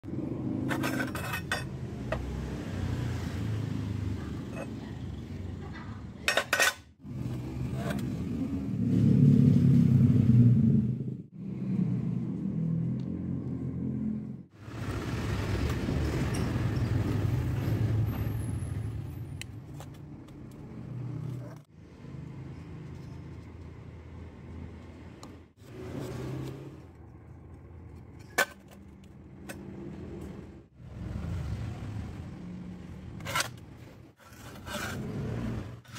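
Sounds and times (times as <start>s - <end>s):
vehicle engine rumble: 7.0s - 35.9s.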